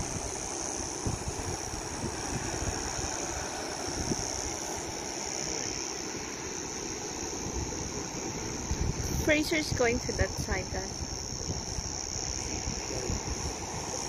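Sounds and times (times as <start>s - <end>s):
insects droning: 0.0s - 14.0s
wind buffeting microphone: 0.0s - 14.0s.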